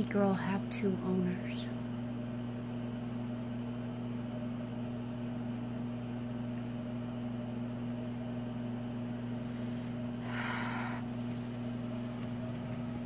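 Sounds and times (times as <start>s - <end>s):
appliance motor hum with hiss: 0.0s - 13.0s.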